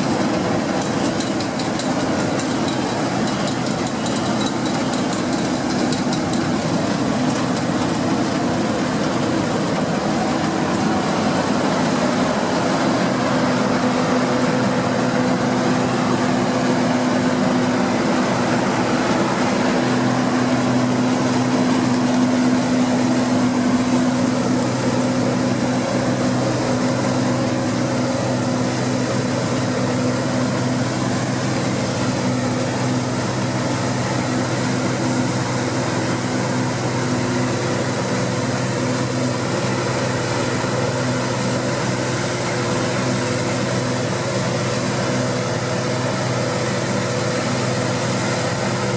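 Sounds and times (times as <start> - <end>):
combine harvester running: 0.0 - 48.9.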